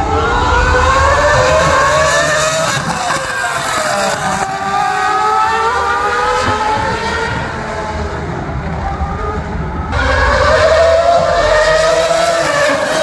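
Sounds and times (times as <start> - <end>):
race car engines accelerating: 0.0 - 13.0.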